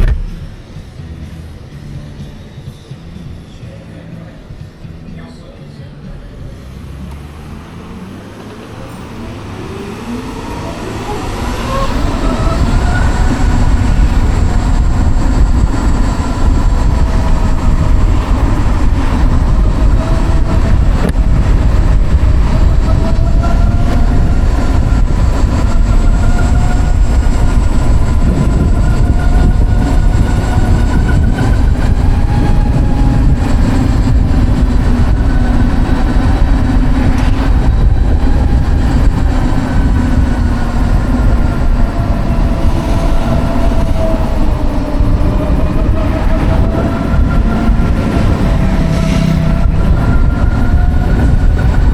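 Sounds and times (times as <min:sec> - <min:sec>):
wind on microphone: 0:00.0 - 0:01.0, 0:09.4 - 0:51.9
road rumble: 0:00.0 - 0:51.9.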